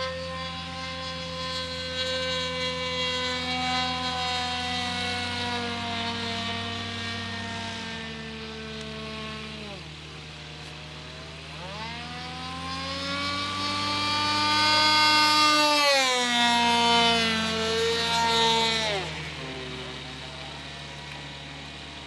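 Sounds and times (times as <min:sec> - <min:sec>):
model plane engine flying overhead: 0:00.0 - 0:22.0.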